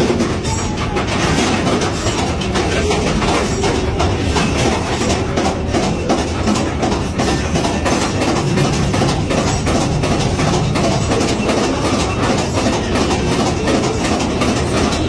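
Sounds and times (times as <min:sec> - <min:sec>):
ride cars clattering on rails: 0:00.0 - 0:15.0.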